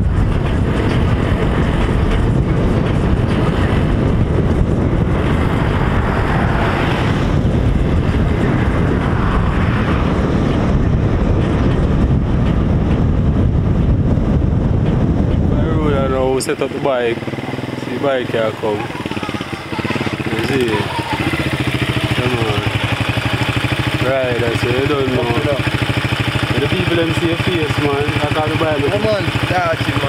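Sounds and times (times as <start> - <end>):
road noise: 0.0 - 30.0
wind rushing over microphone: 0.0 - 30.0.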